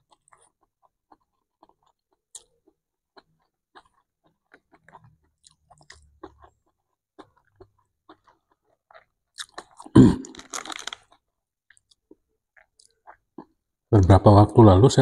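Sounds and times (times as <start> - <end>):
wet mouth clicks: 0.0 - 13.6
close chewing: 0.0 - 13.7.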